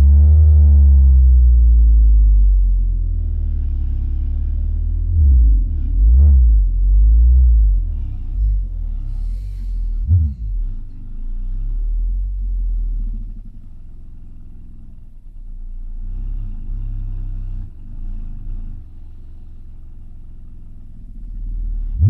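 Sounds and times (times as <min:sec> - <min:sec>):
distorted deep bass music: 0:00.0 - 0:22.0.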